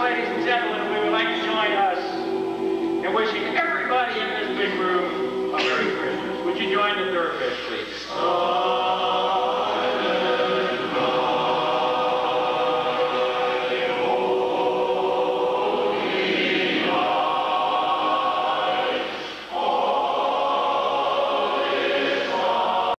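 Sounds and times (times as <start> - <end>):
men's chorus singing in harmony: 0.0 - 23.0.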